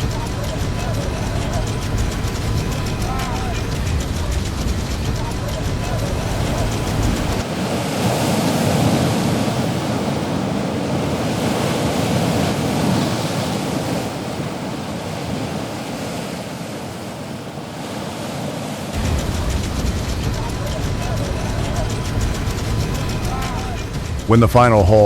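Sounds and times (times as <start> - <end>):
wind buffeting microphone: 0.0 - 15.5, 18.9 - 25.0
sea waves washing: 0.0 - 25.0.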